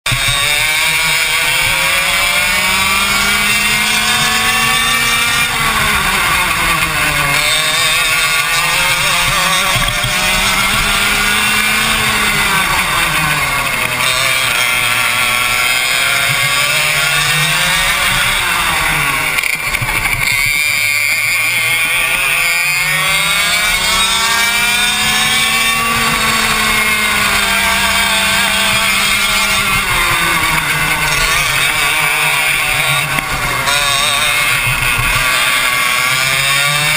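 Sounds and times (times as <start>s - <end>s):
racing kart engine revving: 0.0s - 36.9s.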